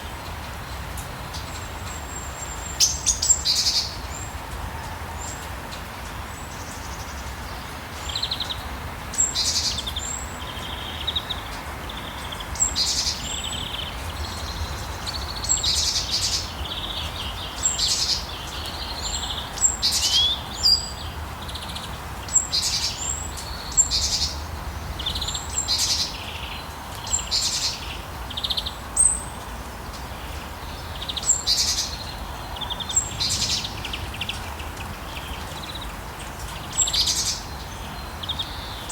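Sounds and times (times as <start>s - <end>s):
rain falling: 0.0s - 38.9s
songbirds chirping and trilling: 0.0s - 38.9s.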